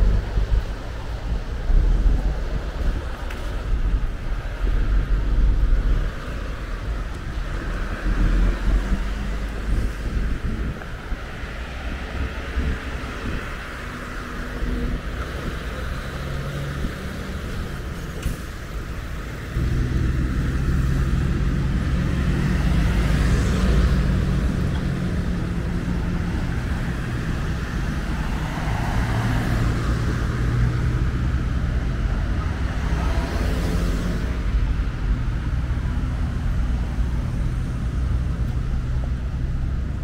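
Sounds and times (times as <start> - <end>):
cars driving past: 0.0 - 40.0.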